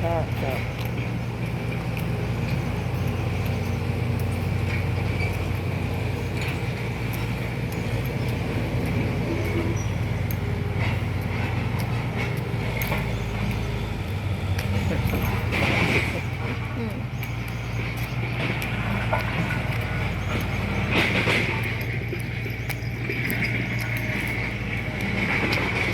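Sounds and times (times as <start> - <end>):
heavy engine droning: 0.0 - 25.9
faint clicks: 0.3 - 25.9.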